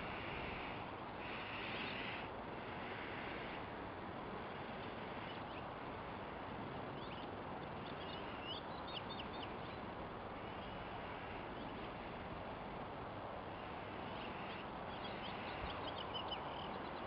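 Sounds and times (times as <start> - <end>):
small birds chirping: 0.0 - 17.0
steady hiss: 0.0 - 17.0.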